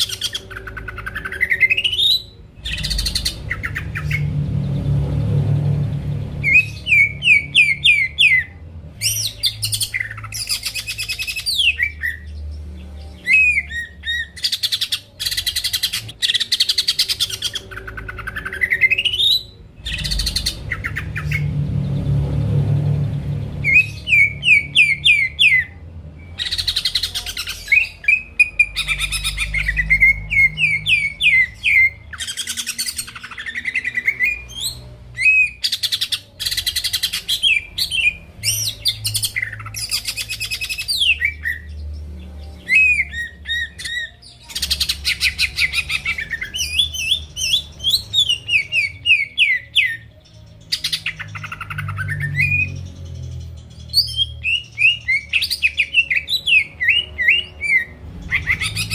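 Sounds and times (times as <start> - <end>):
bird singing whistles and trills: 0.0 - 4.8, 6.2 - 21.6, 23.5 - 58.9.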